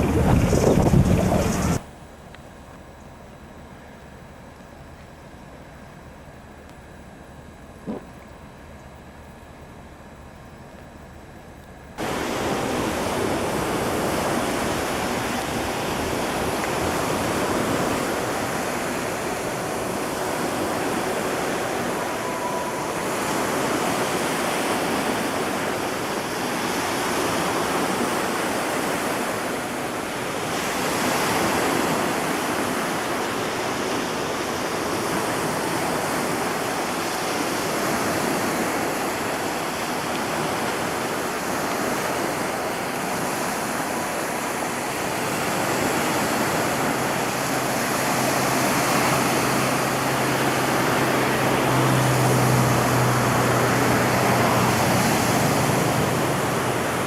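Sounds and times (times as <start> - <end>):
rushing water: 0.0 - 1.8, 12.0 - 57.0
rushing wind: 0.0 - 1.9, 12.0 - 57.0.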